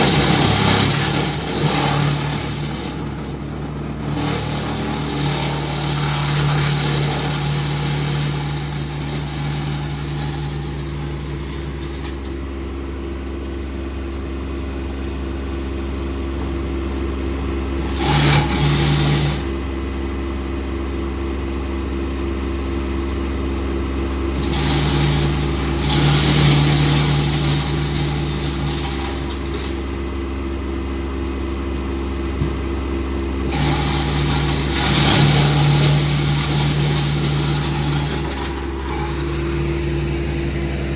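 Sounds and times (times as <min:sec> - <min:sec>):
wood chipper running: 0:00.0 - 0:40.9
wood going through chipper: 0:00.0 - 0:40.9.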